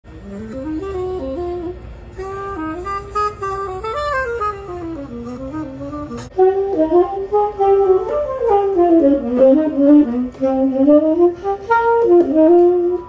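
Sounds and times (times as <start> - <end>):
tenor saxophone jazz line: 0.1 - 13.0.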